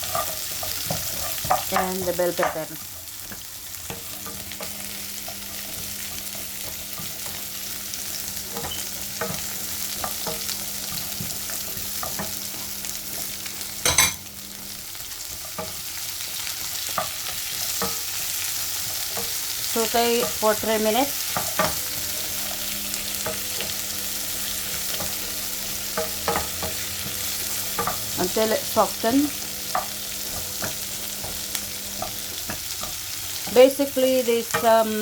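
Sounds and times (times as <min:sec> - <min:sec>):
vegetables sizzling in a pan: 0:00.0 - 0:35.0.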